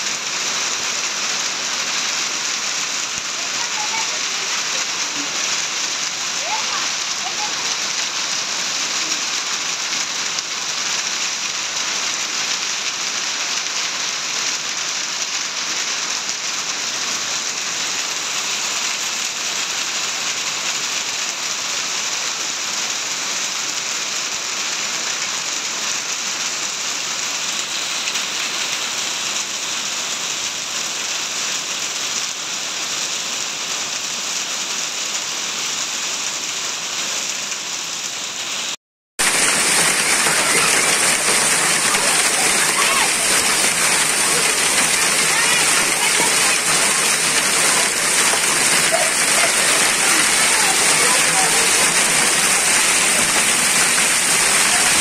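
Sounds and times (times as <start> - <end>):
heavy rain and hail: 0.0 - 55.0.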